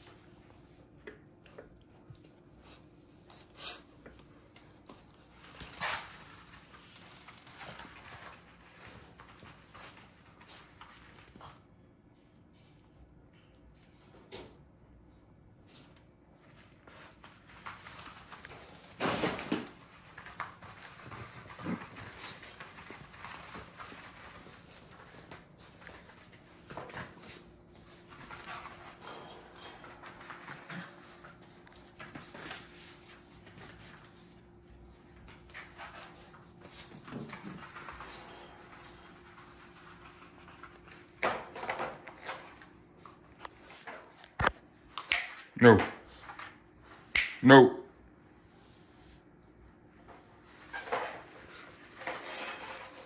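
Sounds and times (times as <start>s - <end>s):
puppies scuffling: 0.0s - 12.2s, 15.7s - 44.8s, 49.9s - 53.0s.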